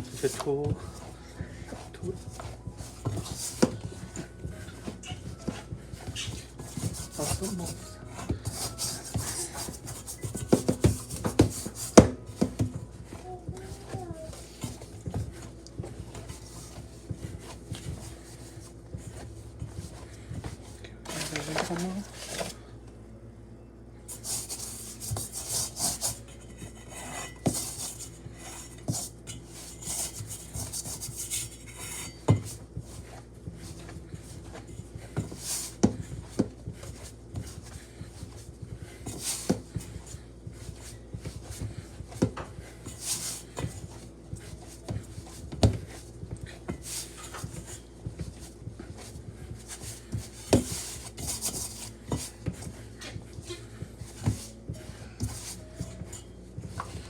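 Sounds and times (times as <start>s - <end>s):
dough being kneaded: 0.0s - 22.7s, 24.1s - 57.0s.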